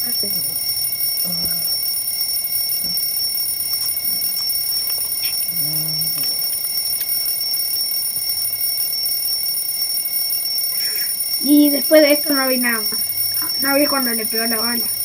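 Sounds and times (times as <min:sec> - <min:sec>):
alarm clock ringing: 0:00.0 - 0:15.0.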